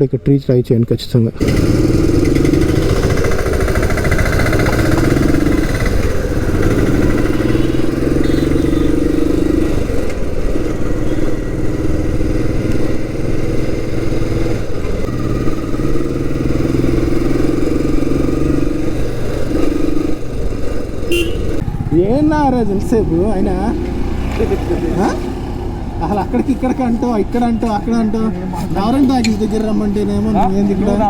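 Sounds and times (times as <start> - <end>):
motorcycle engine running: 1.4 - 28.2.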